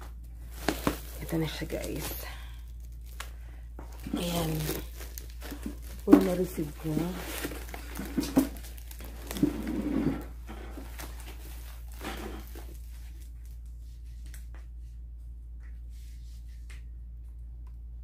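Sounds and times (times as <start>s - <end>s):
bubble wrap rustling: 0.0s - 14.5s
low steady hum: 0.0s - 18.0s.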